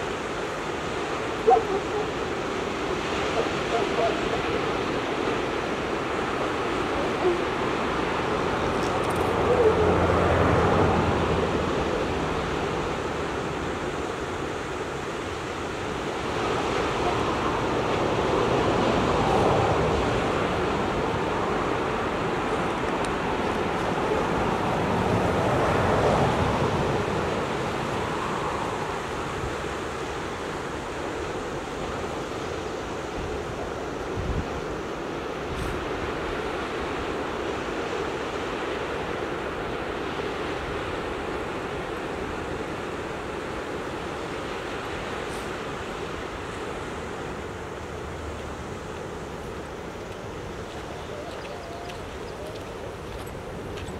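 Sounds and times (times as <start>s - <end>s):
surf washing over rocks: 0.0s - 53.9s.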